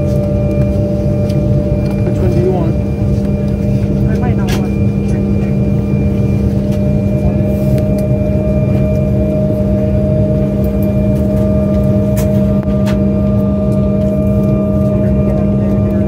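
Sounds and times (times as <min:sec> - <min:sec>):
aircraft cabin drone: 0:00.0 - 0:16.0.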